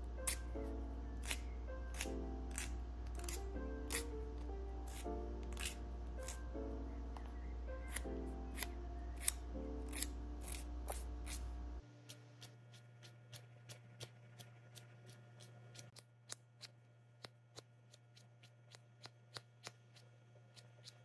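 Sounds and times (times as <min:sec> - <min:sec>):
nail file scraping: 0:00.2 - 0:00.6, 0:01.2 - 0:04.2, 0:04.8 - 0:06.5, 0:07.9 - 0:11.5, 0:12.1 - 0:21.0.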